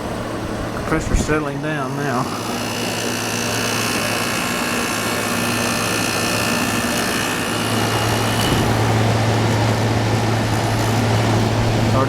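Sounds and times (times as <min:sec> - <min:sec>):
air conditioner compressor hum: 0:00.0 - 0:12.0
fan rushing air: 0:00.0 - 0:12.0.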